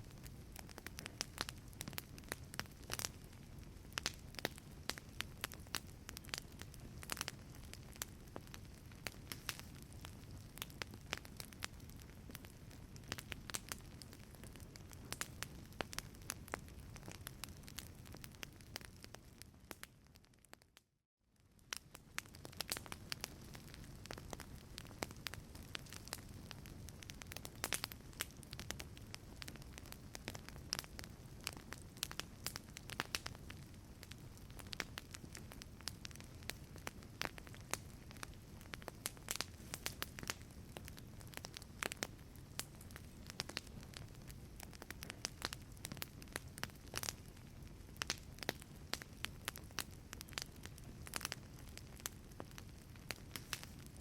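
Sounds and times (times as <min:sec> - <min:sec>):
low rumble of flames: 0:00.0 - 0:20.6, 0:21.4 - 0:54.0
wood fire pops and snaps: 0:00.2 - 0:03.3, 0:03.9 - 0:19.9, 0:21.7 - 0:54.0.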